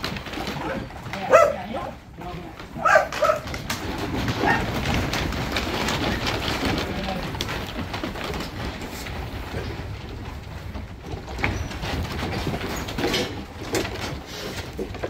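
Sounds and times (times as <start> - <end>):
hooves clattering on wooden boards: 0.0 - 15.0
knocks against wooden rails: 0.0 - 15.0.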